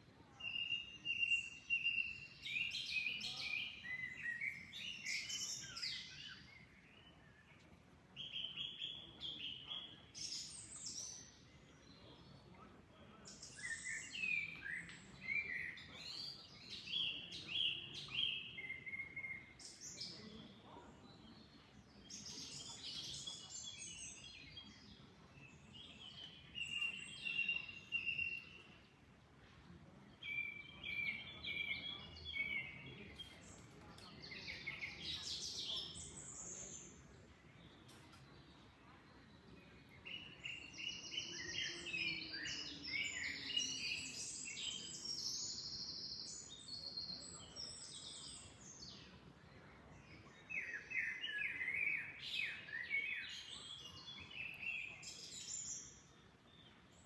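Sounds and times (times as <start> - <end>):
songbirds whistling and trilling: 0.4 - 29.0, 30.1 - 57.0.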